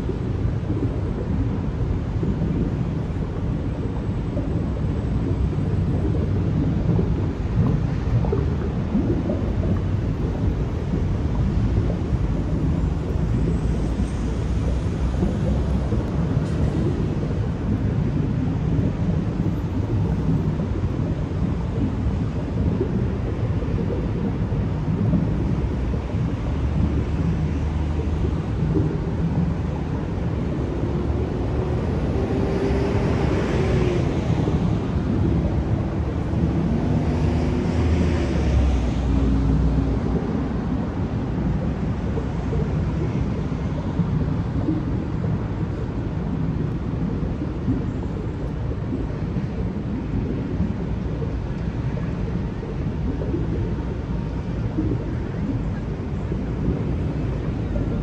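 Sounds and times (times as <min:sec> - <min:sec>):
city street traffic rumble: 0:00.0 - 0:58.0
wind on microphone: 0:00.0 - 0:58.0.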